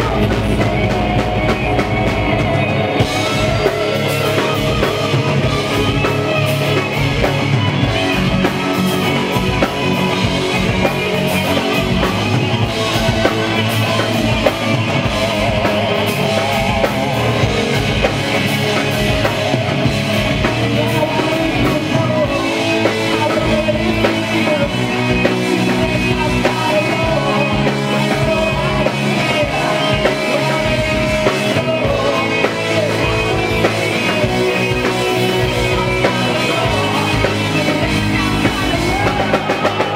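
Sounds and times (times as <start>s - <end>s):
distorted electric guitars: 0.0s - 39.9s
drum kit: 0.0s - 39.9s
keyboards: 0.0s - 39.9s.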